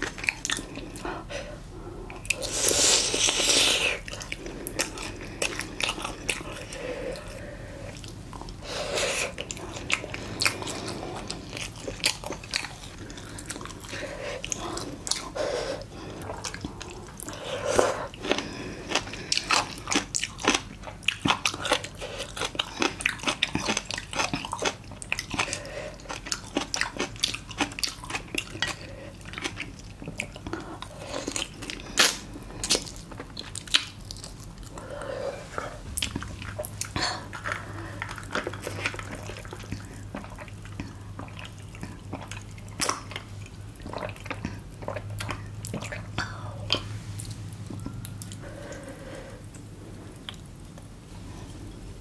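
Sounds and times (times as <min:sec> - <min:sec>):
chewing and crunching: 0:00.0 - 0:01.4, 0:02.1 - 0:52.0
low steady hum: 0:00.0 - 0:52.0.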